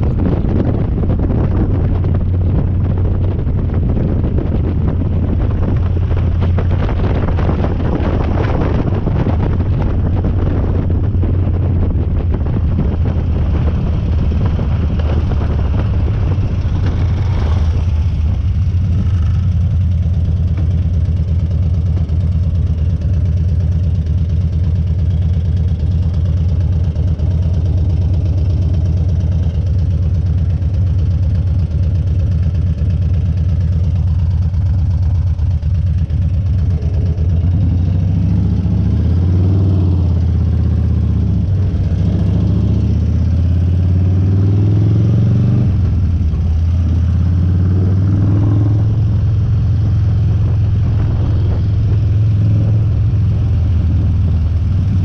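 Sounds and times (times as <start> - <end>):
wind on microphone: 0.0 - 23.9, 26.5 - 55.0
motorcycle engine running: 0.0 - 55.0.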